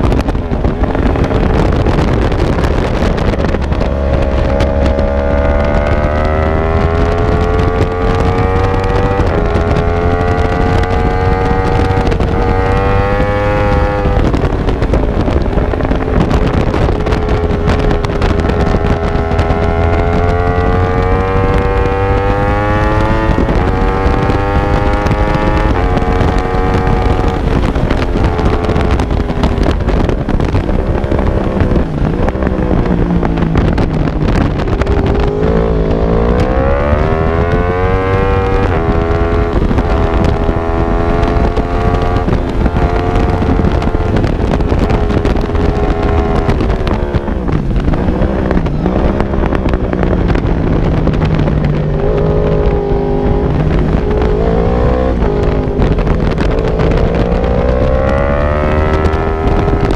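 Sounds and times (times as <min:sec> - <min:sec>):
racing motorcycle engine: 0:00.0 - 0:59.9
wind buffeting on microphone: 0:00.0 - 0:59.9.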